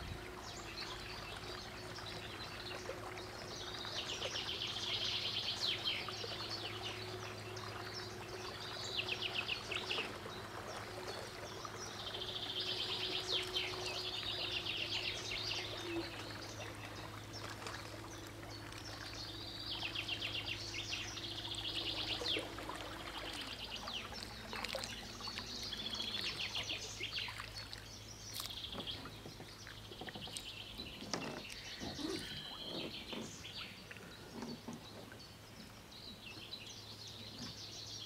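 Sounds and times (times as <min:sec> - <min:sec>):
electric outboard motor hum: 0:00.0 - 0:37.8
birds singing: 0:00.0 - 0:38.0
water lapping around hull: 0:00.0 - 0:38.0.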